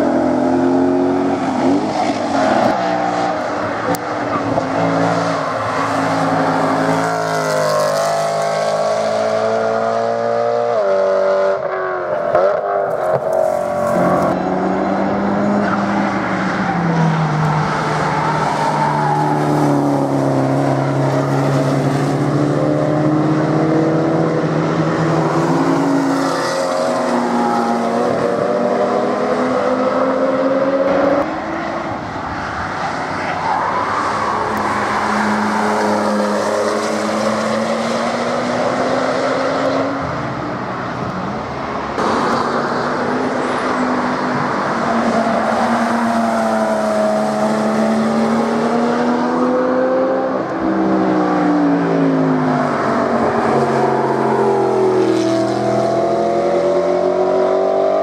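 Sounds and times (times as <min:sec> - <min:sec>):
sports cars driving past: 0:00.0 - 0:58.0.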